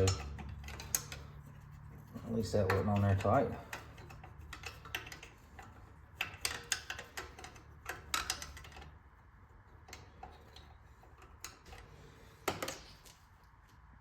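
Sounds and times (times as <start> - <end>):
metallic clicks of wrench and parts: 0.0 - 1.6, 2.4 - 13.2.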